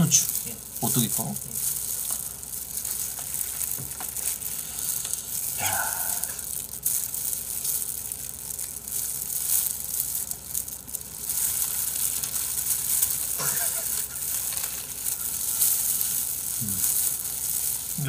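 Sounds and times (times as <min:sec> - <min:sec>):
crackle of fried chicken batter: 0:00.0 - 0:18.0
plastic gloves rustling: 0:00.0 - 0:18.0.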